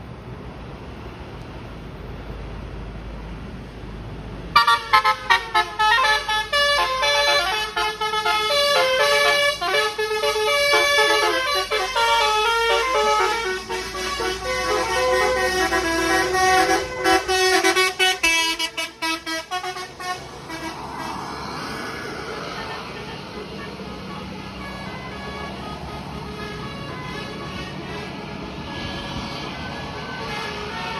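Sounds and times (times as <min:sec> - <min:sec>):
musical air horn melody: 0:04.6 - 0:30.9.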